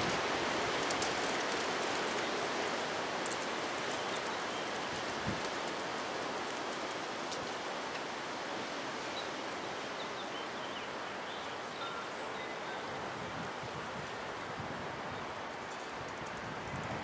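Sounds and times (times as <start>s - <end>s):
strong wind rushing through trees: 0.0s - 17.0s.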